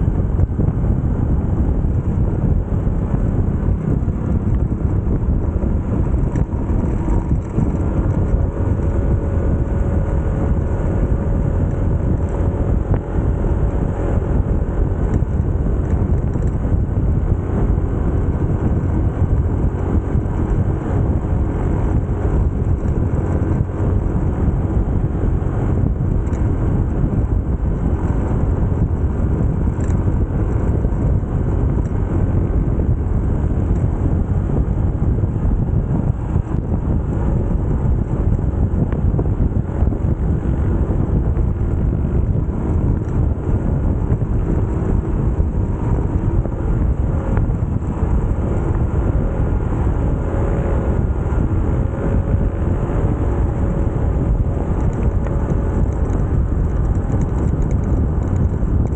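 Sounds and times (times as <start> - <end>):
motorcycle engine humming: 0.0 - 58.9
wind rushing over microphone: 0.0 - 58.9.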